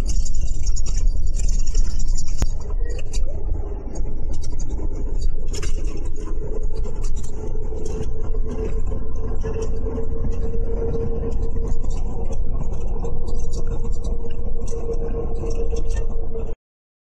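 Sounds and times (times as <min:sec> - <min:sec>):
bus engine and road rumble: 0:00.0 - 0:16.6
whine-like hum: 0:00.0 - 0:16.6.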